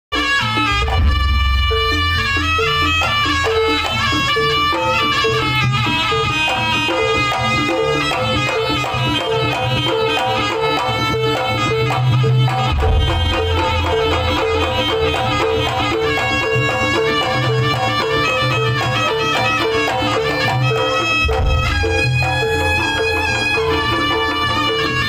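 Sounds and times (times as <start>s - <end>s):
reedy melody: 0.1s - 25.0s
steady drums: 0.1s - 25.0s.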